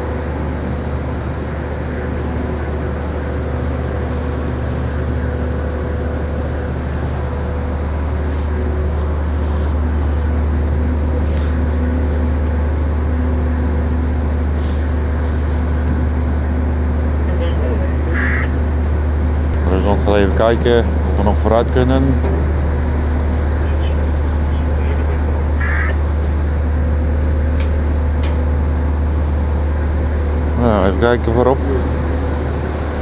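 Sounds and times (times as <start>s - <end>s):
faint hum: 0.0s - 33.0s
ship engine droning: 0.0s - 33.0s.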